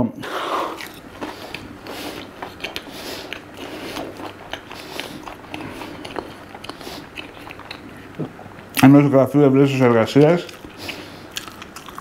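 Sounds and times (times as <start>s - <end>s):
chewing fried food: 0.4s - 8.8s, 10.2s - 12.0s.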